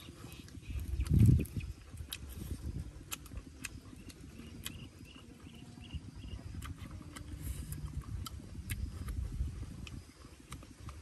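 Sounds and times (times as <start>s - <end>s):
low rumble: 0.0s - 11.0s
person chewing food: 0.0s - 11.0s.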